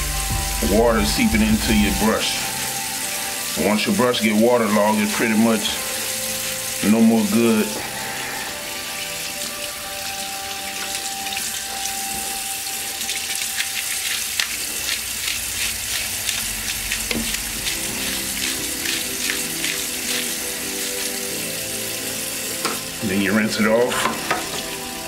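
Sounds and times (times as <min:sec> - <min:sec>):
tap water running into sink: 0:00.0 - 0:25.0.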